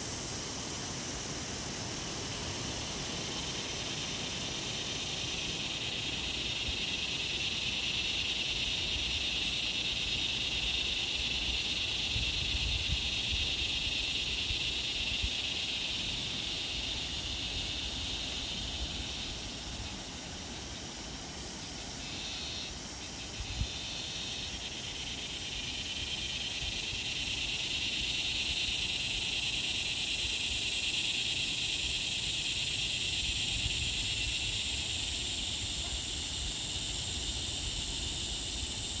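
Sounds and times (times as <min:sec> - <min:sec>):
insect chorus drone: 0:00.0 - 0:39.0.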